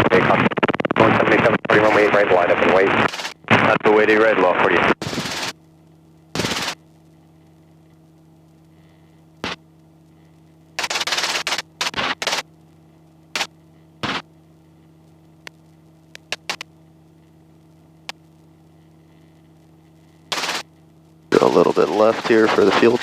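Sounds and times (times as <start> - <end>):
loud static bursts: 0.0 - 23.0
steady electrical hum: 0.0 - 23.0.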